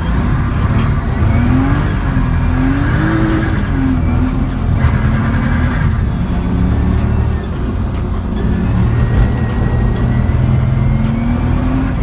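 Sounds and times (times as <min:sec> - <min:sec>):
car engine revving: 0:00.0 - 0:12.0
music: 0:00.0 - 0:12.0.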